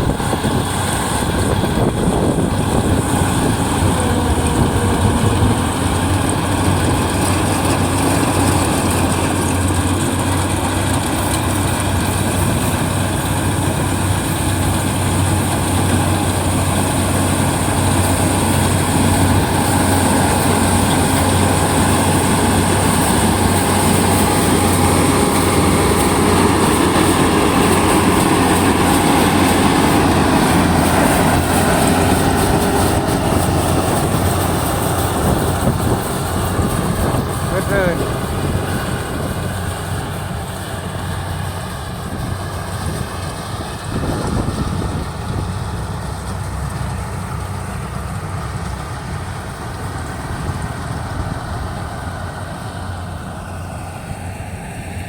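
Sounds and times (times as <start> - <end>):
combine harvester diesel hum: 0.0 - 55.0.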